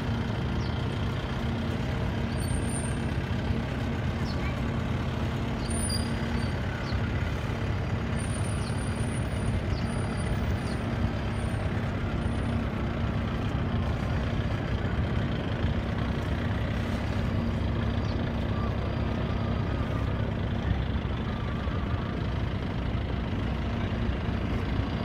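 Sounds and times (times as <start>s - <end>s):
heavy engine running: 0.0s - 25.0s.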